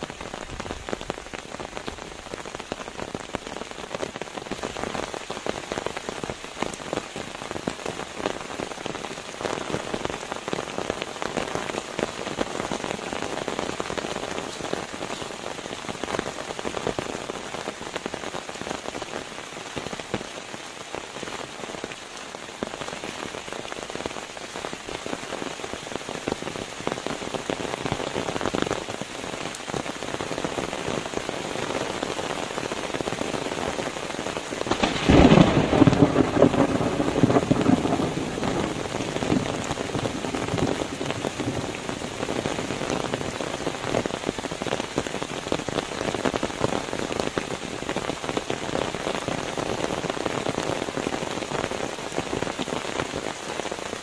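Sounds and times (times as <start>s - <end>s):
rain falling on a surface: 0.0s - 54.0s.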